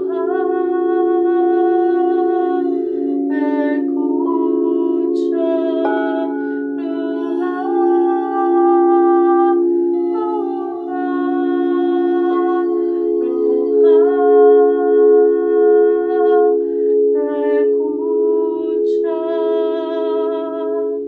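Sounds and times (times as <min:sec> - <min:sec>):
singing bowl drone: 0:00.0 - 0:21.0
wordless melody: 0:00.0 - 0:21.0.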